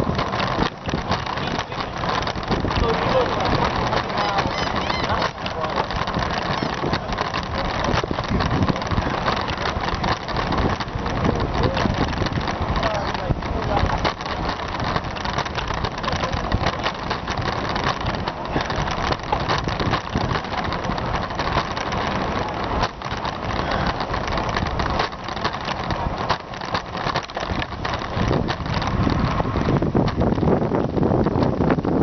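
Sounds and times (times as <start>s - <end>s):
passing motor traffic hum: 0.0s - 31.9s
wind on microphone: 0.0s - 32.0s.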